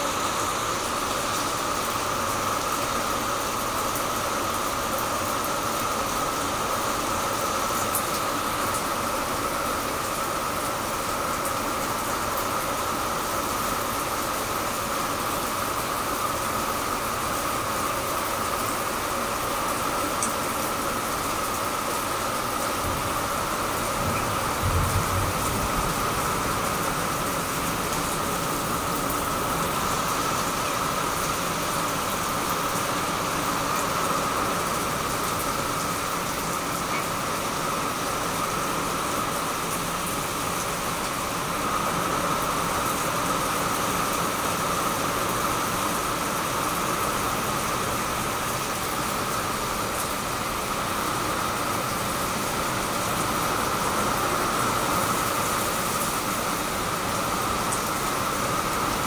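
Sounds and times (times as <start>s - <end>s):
rain on tiles: 0.0s - 59.0s.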